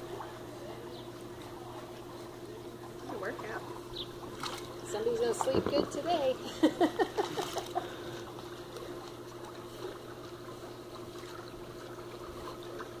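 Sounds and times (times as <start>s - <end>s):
steady low hum: 0.0s - 13.0s
water lapping and trickling: 0.0s - 13.0s.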